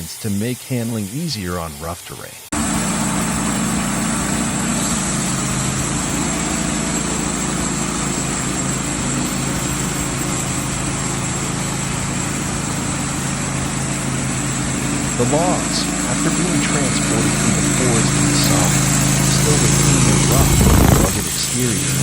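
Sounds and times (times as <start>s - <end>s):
truck engine running under load: 2.5s - 22.0s.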